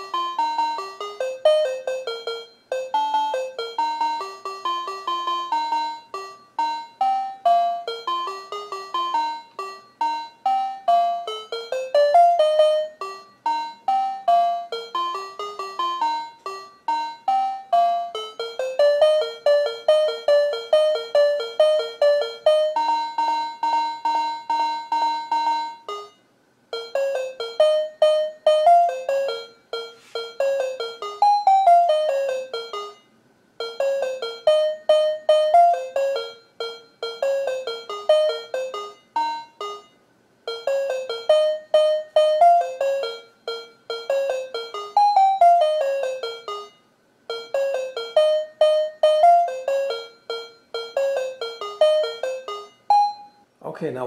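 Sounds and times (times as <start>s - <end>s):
alarm clock beeps: 0.0s - 53.5s
electronic alarm tune: 0.0s - 53.5s.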